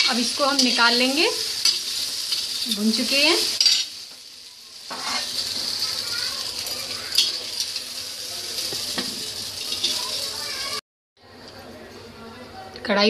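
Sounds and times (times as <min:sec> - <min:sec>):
hot oil sizzling in a pan: 0:00.0 - 0:10.8.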